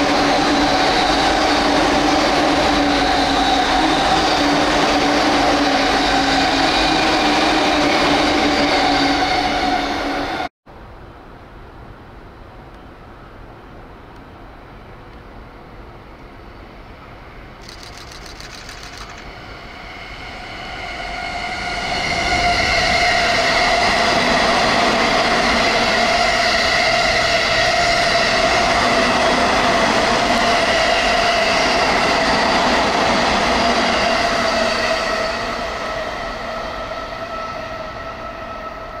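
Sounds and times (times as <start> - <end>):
electric train passing: 0.0 - 10.5, 15.6 - 39.0.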